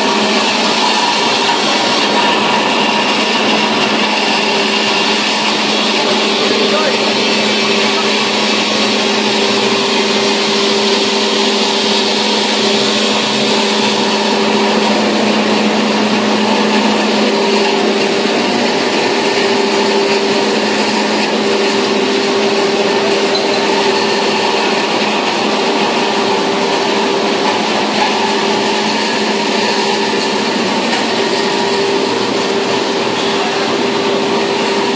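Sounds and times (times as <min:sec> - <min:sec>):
machine running with low hum: 0:00.0 - 0:34.9.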